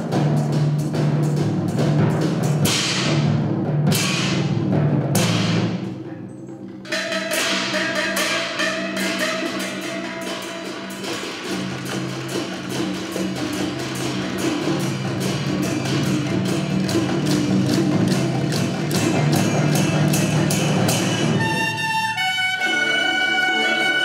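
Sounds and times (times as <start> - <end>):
woodblock percussion beat: 0.0 - 24.0.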